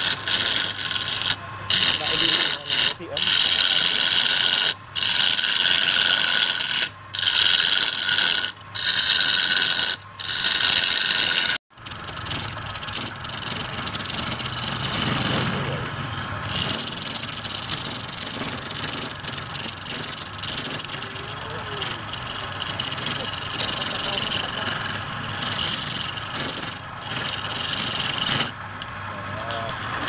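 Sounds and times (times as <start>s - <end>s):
shavings rubbing spinning wood: 0.0s - 28.7s
chisel scraping spinning wood: 0.0s - 30.0s
lathe running: 0.0s - 30.0s.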